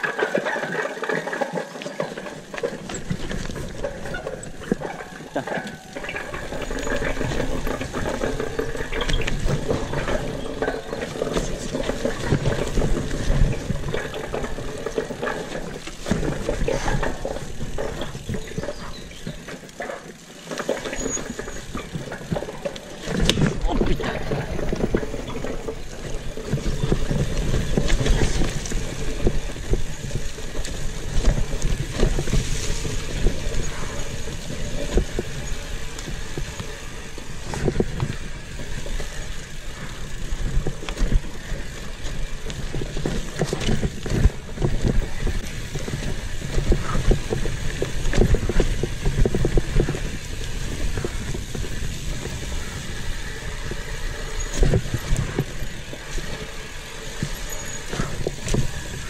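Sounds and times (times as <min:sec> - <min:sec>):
bike rattling and knocking: 0:00.0 - 0:59.0
bike tyres rolling over leaves: 0:00.0 - 0:59.0.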